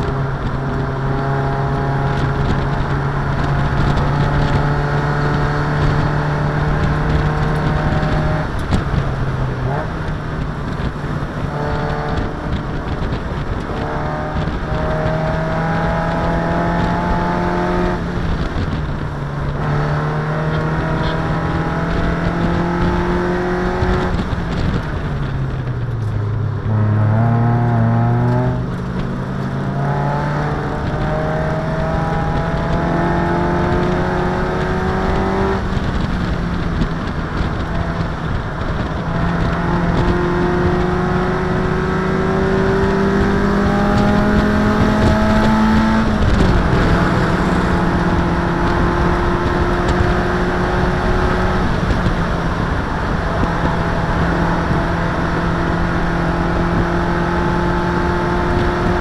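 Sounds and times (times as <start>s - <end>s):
race car engine: 0.0s - 59.0s
road and wind noise: 0.0s - 59.0s.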